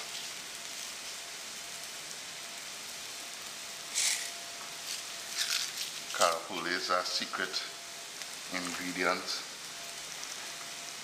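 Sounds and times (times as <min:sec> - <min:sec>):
leaves hissing in hot oil: 0:00.0 - 0:11.0
vegetables sizzling in oil: 0:00.0 - 0:11.0.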